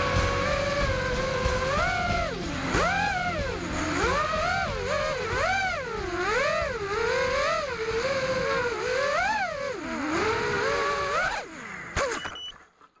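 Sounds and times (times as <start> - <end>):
quadcopter motors whining: 0.0 - 12.7.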